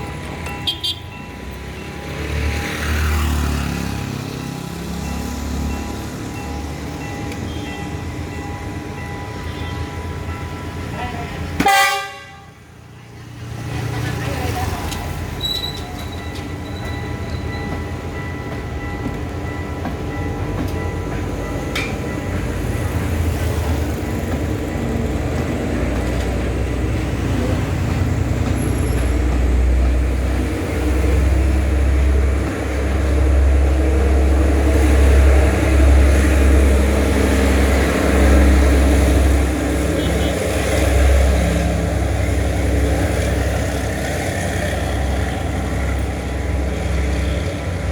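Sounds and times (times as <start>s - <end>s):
train accelerating past: 0.0s - 11.6s, 13.2s - 47.9s.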